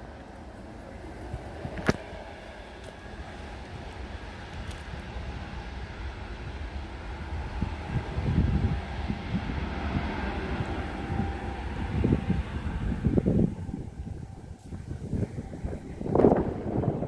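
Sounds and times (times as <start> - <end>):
airliner engines humming: 0.0 - 17.0
wind buffeting microphone: 0.0 - 17.0.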